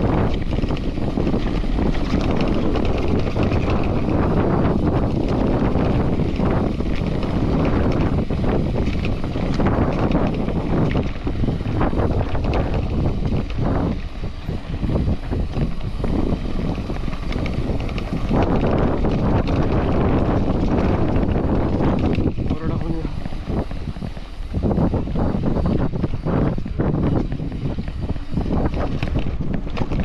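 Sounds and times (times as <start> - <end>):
bike rattling over bumps: 0.0 - 30.0
tyres crunching over gravel: 0.0 - 30.0
wind buffeting microphone: 0.0 - 30.0.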